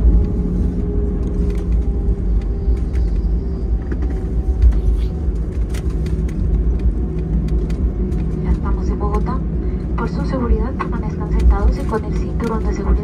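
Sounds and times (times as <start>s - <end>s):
aircraft cabin rumble: 0.0s - 13.0s
steady hum tones: 0.0s - 13.0s.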